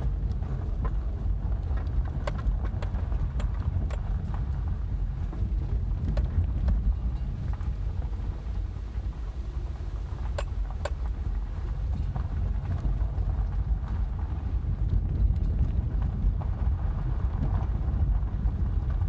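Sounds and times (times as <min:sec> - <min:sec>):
car rolling over gravel: 0:00.0 - 0:19.0.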